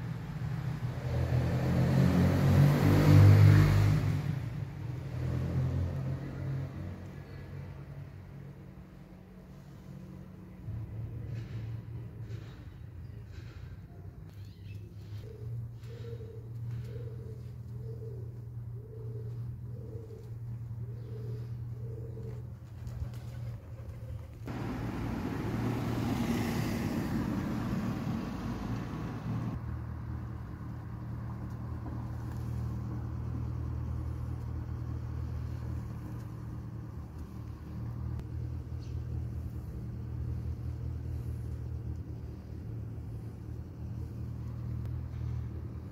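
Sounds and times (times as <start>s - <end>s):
motor vehicle passing: 0.4s - 12.6s, 15.0s - 45.9s.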